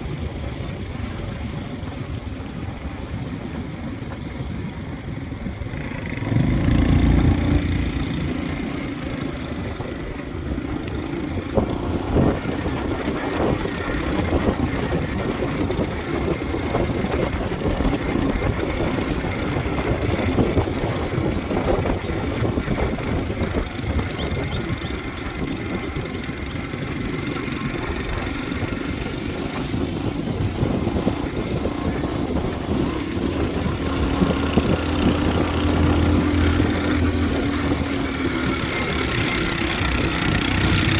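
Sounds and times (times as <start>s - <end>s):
motorbike engine humming: 0.0s - 40.9s
wind and road noise: 0.0s - 40.9s.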